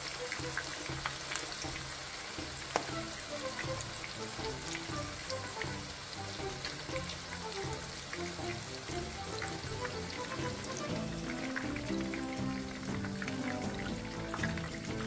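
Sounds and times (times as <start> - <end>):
background music with melody: 0.0 - 15.0
patties sizzling in oil: 0.0 - 15.0.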